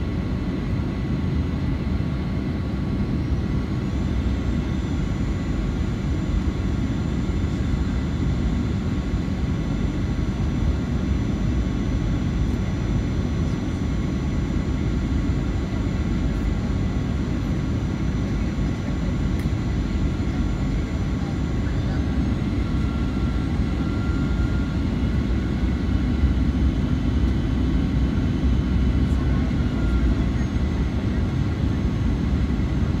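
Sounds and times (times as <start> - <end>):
aircraft cabin engine rush: 0.0 - 33.0
thin steady whines: 0.0 - 33.0.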